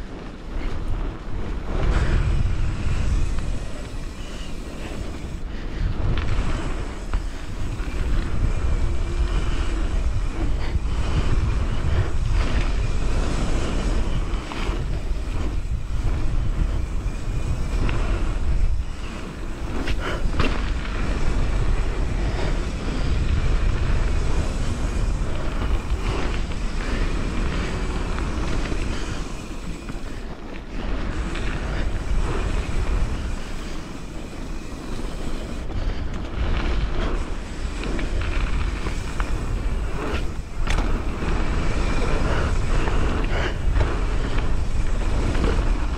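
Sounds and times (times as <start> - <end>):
bike knocking and rattling: 0.0 - 45.9
wind buffeting microphone: 0.0 - 45.9.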